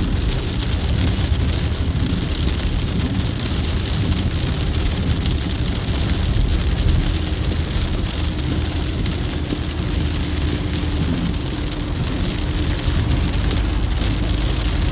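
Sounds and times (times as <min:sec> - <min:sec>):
heavy rain on a car: 0:00.0 - 0:14.9
tyre and road noise: 0:00.0 - 0:14.9.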